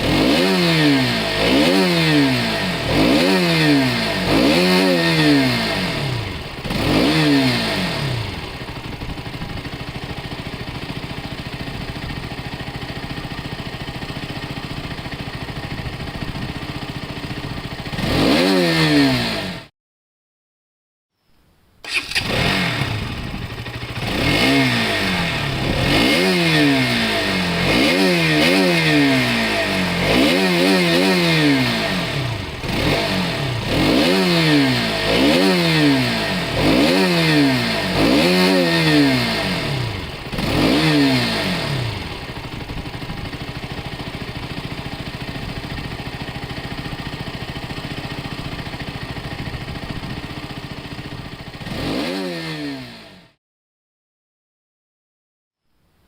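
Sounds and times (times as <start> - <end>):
motorcycle engine revving: 0.0 - 19.7, 21.8 - 53.4.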